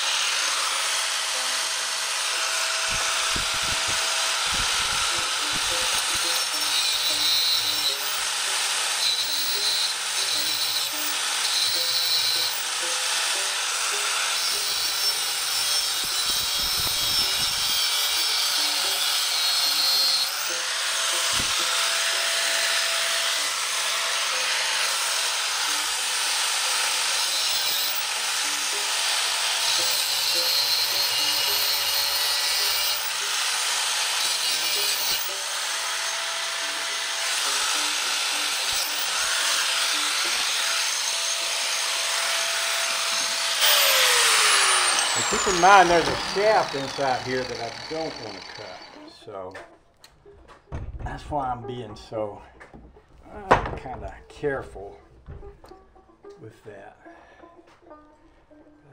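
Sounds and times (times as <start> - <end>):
angle grinder cutting metal: 0.0 - 49.1.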